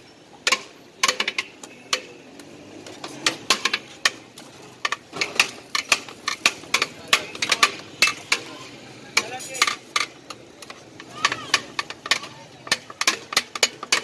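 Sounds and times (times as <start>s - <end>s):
metal spoons clacking on pots: 0.4s - 2.2s, 3.0s - 14.0s.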